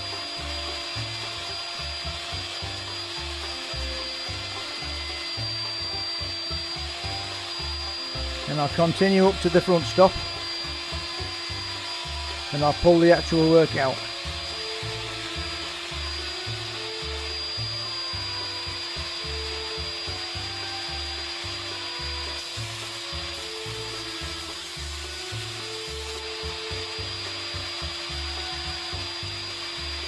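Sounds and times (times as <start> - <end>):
router whine and hiss: 0.0 - 30.0.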